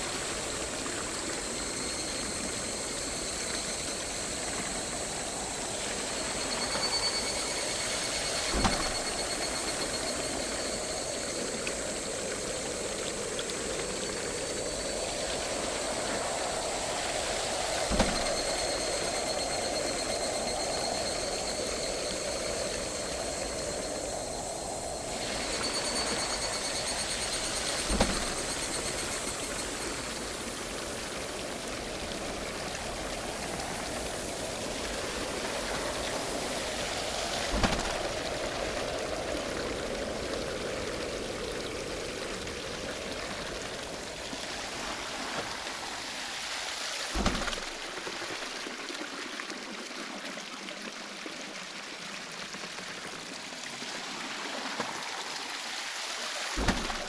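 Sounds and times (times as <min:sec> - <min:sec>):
water rushing at a waterwheel: 0:00.0 - 0:57.0.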